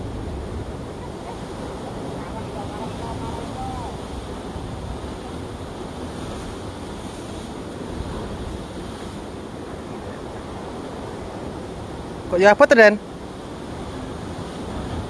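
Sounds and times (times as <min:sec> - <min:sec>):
wind buffeting microphone: 0:00.0 - 0:12.3
surf washing against rocks: 0:00.0 - 0:15.0.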